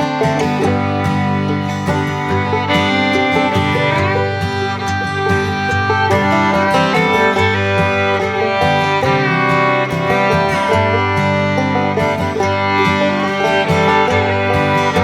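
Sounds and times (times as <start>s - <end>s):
bluegrass fiddle and guitar music: 0.0s - 15.0s.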